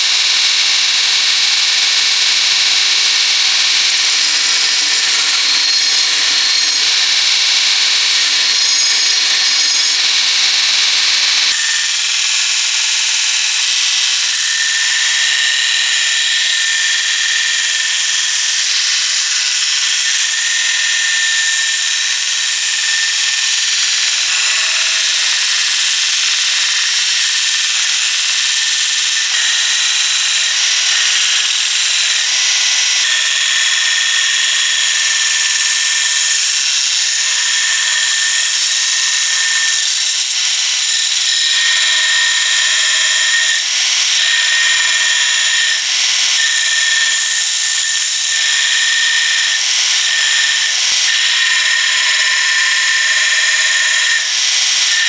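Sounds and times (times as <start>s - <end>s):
power tool grinding steel: 0.0s - 55.0s.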